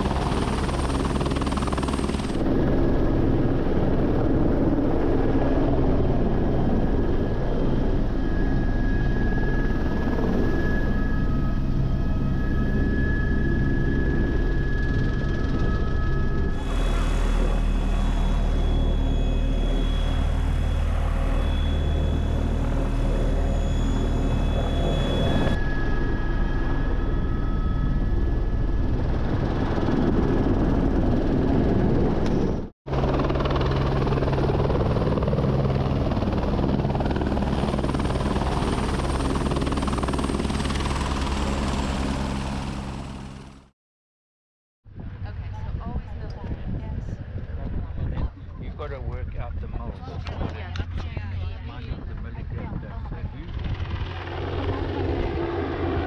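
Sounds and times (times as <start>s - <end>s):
helicopter turbine and rotors: 0.0s - 43.8s, 44.9s - 56.0s.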